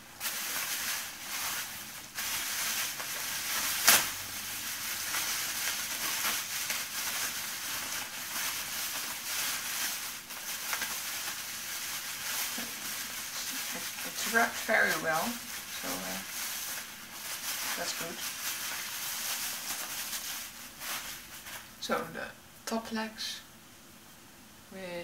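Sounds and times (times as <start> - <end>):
plastic wrapping crinkling: 0.0 - 21.8.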